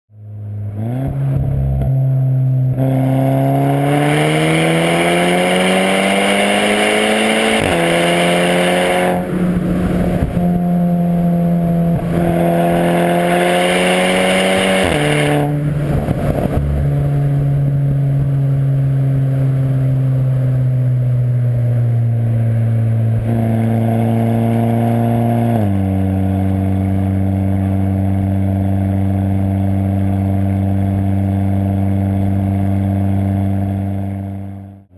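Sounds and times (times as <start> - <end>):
car engine accelerating hard: 0.2 - 34.9
exhaust crackles: 0.2 - 34.9.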